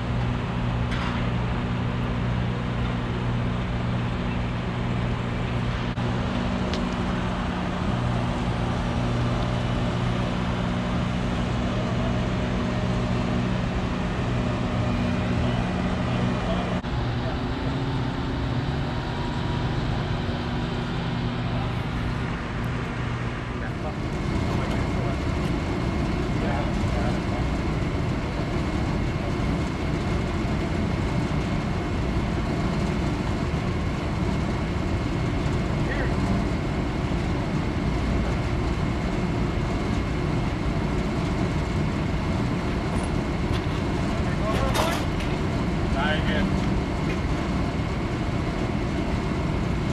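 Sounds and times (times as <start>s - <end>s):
truck engine low hum: 0.0s - 49.9s.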